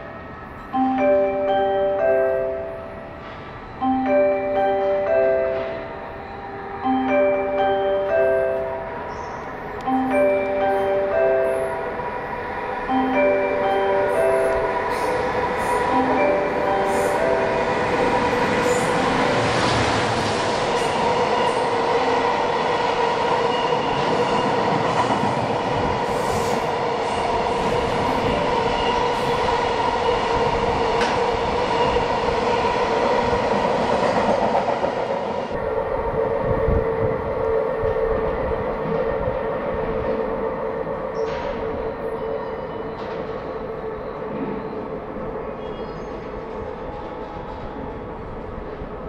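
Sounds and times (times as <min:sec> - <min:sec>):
train wheels rumbling on rails: 0:09.7 - 0:49.0.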